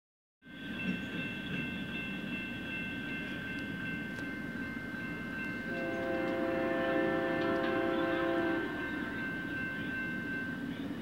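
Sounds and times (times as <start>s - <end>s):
crossing warning bells ringing: 0.4s - 11.0s.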